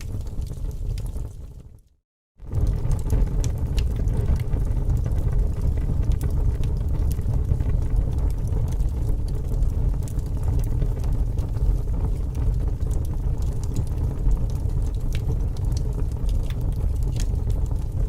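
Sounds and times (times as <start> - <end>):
fire popping and snapping: 0.0 - 18.0
low rumble of flames: 0.0 - 18.0.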